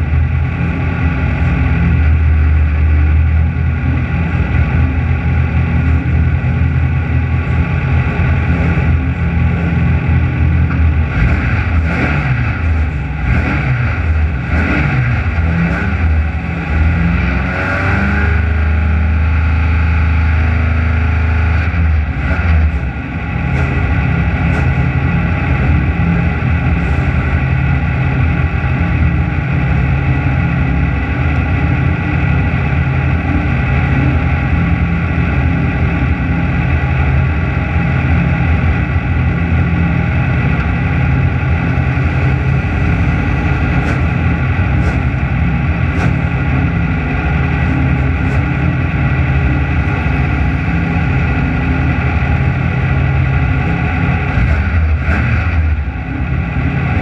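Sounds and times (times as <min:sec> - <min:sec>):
race car engine idling: 0:00.0 - 0:57.0.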